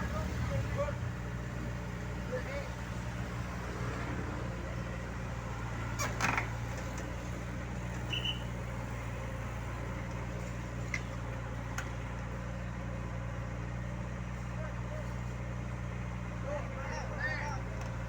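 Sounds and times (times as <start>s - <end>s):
heavy equipment engine idling: 0.0s - 18.0s.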